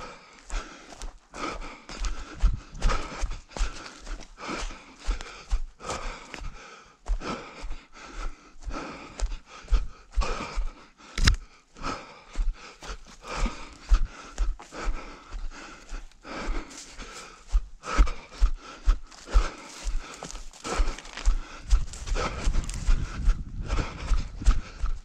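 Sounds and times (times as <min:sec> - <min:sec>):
hard panting breaths: 0:00.0 - 0:25.0
running footsteps thudding: 0:00.6 - 0:25.0.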